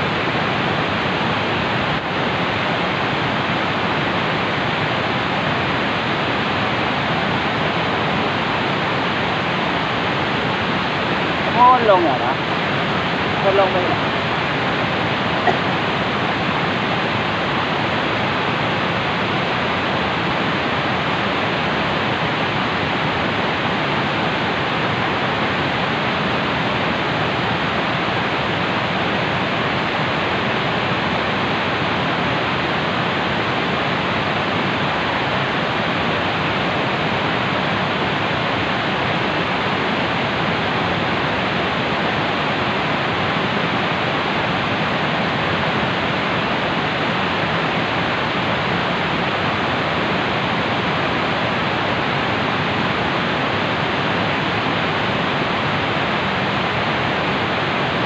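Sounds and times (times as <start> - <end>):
fast-flowing river rushing: 0.0 - 58.0.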